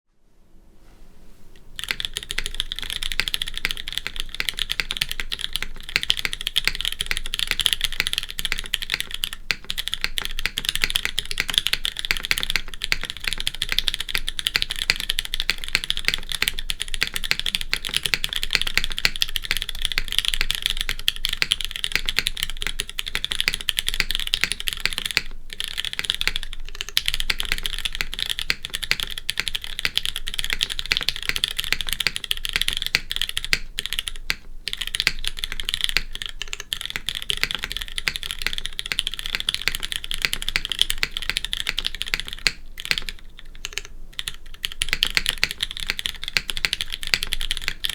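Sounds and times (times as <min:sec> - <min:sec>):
typing on mechanical keyboard: 0:01.8 - 0:47.9.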